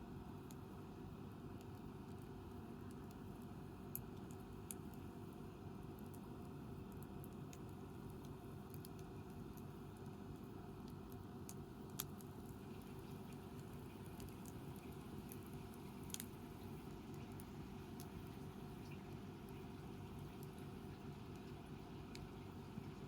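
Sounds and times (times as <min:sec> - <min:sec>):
low steady fire rumble: 0:00.0 - 0:23.0
campfire crackling: 0:02.5 - 0:22.4.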